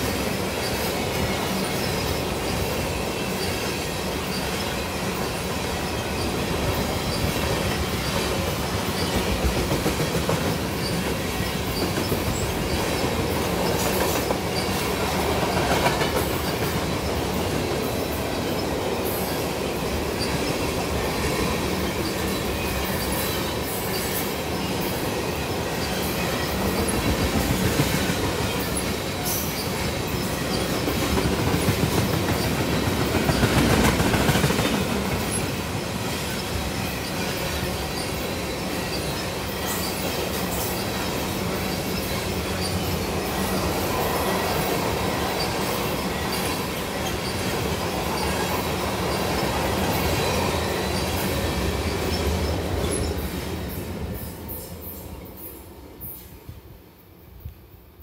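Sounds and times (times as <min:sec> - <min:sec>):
steel train wheels rumbling on rail: 0:00.0 - 0:58.0.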